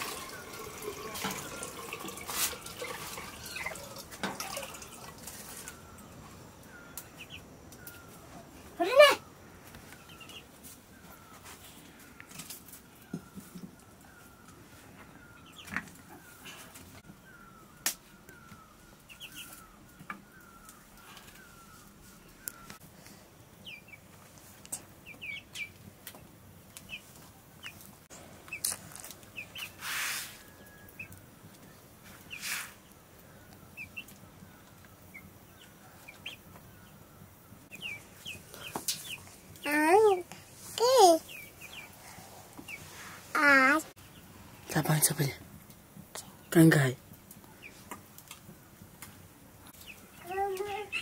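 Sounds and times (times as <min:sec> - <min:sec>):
chickens calling softly: 0:00.0 - 0:22.8, 0:23.5 - 0:51.0.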